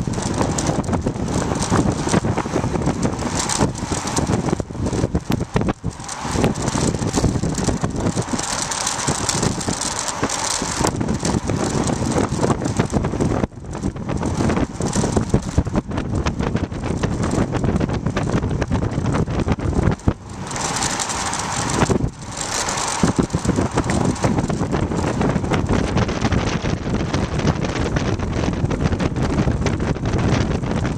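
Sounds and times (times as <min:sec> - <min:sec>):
tyres rumbling on asphalt: 0:00.0 - 0:30.9
wind rushing over microphone: 0:00.0 - 0:30.9.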